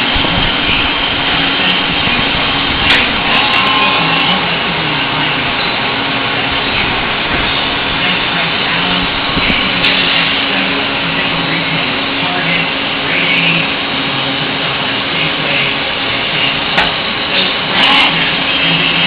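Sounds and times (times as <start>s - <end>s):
lathe machine whirring hiss: 0.0s - 19.0s.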